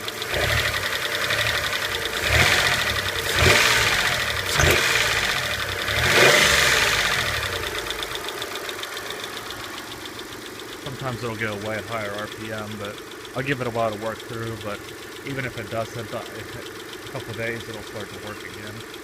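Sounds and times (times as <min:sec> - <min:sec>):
car engine revving: 0:00.0 - 0:19.0
engine lifter tick: 0:00.0 - 0:19.0.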